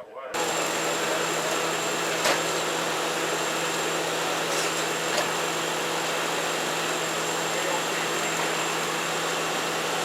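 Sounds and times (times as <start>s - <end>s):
sawmill engine running: 0.4s - 10.0s.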